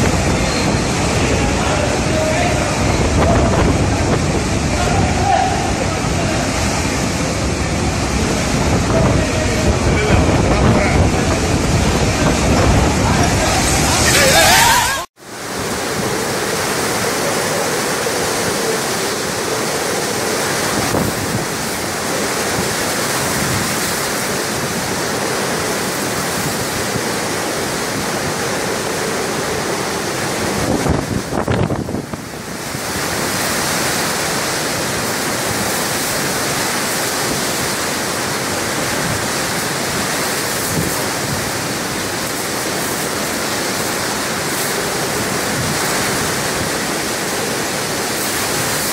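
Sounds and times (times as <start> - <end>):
heavy rain: 0.0 - 48.9
storm wind through trees: 0.0 - 48.9
wind buffeting microphone: 0.0 - 48.9.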